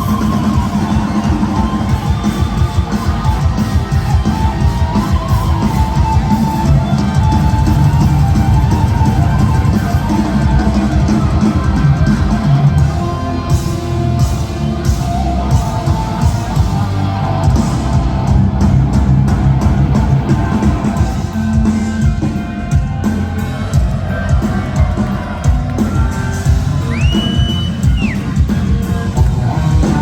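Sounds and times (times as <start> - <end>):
bass guitar: 0.0 - 30.0
electric guitar: 0.0 - 30.0.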